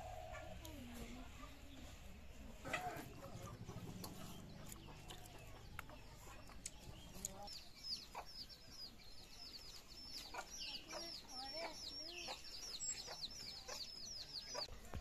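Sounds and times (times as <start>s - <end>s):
chickens calling: 0.0s - 14.7s.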